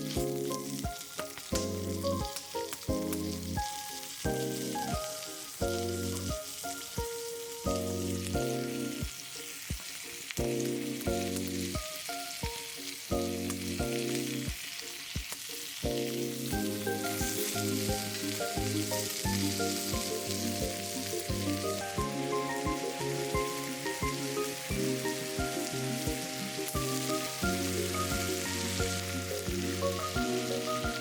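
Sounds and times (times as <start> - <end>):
food sizzling and popping: 0.0 - 31.0.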